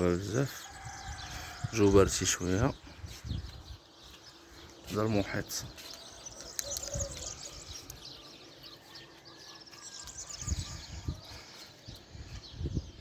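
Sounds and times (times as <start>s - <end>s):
small birds chirping and twittering: 0.0s - 13.0s.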